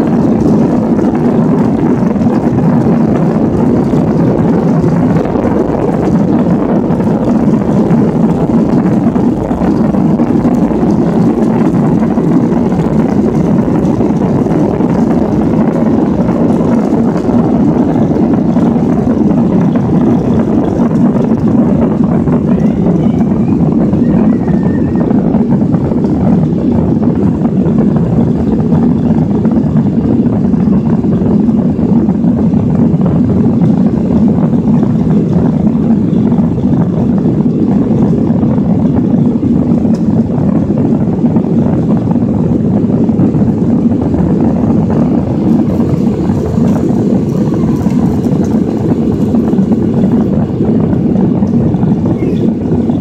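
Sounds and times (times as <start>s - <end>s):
jet engines roaring in cabin: 0.0s - 53.0s.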